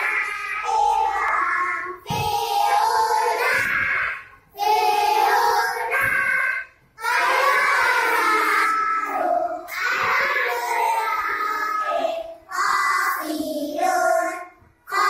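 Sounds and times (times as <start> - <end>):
children singing together: 0.0 - 15.0.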